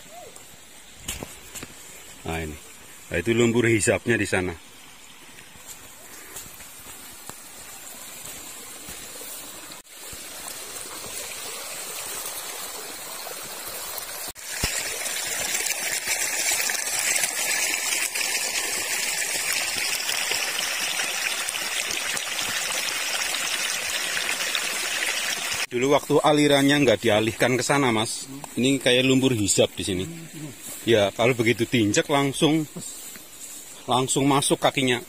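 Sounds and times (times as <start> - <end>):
stream water rushing: 0.0 - 33.2.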